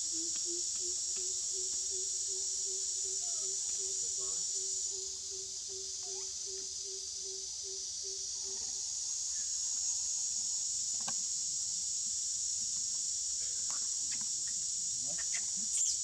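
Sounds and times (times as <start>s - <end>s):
insect chorus droning: 0.0s - 16.0s.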